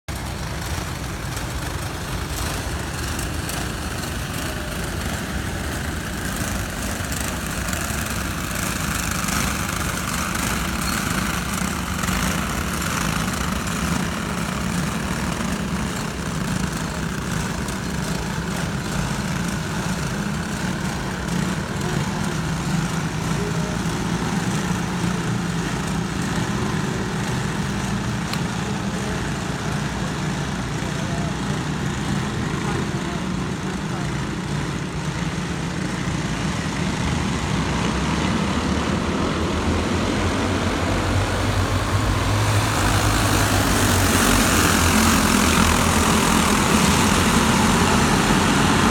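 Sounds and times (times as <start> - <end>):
go-kart engines running: 0.0 - 48.9.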